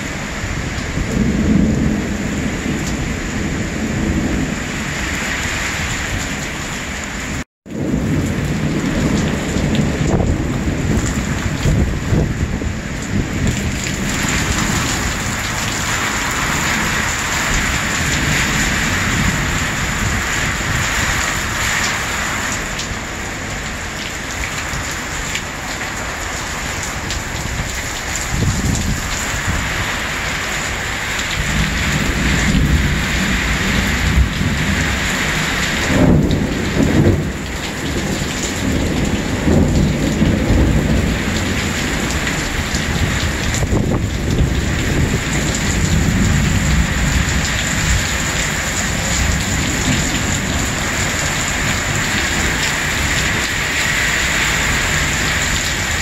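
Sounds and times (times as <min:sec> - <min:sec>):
heavy rain downpour: 0:00.0 - 0:56.0
thunder rumbling: 0:00.0 - 0:56.0.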